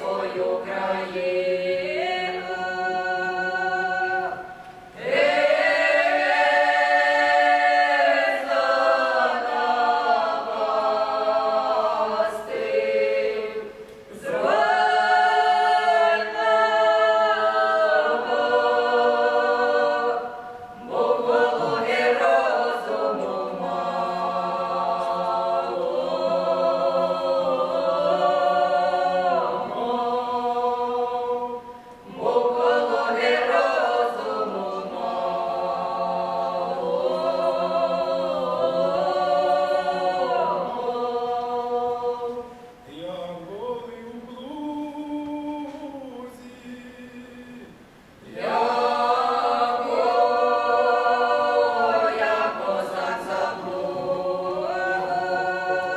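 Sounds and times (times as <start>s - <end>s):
choir singing unaccompanied folk song: 0.0s - 55.9s.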